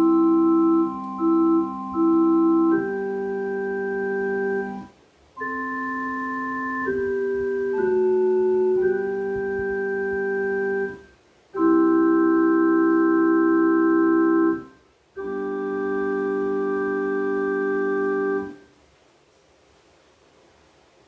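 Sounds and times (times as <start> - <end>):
organ chords: 0.0 - 18.7.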